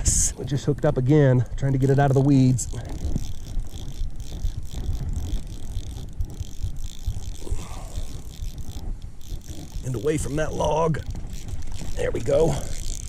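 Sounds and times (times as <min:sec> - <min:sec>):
fishing reel clicking whir: 0:00.0 - 0:13.0
wind buffeting microphone: 0:00.0 - 0:13.0.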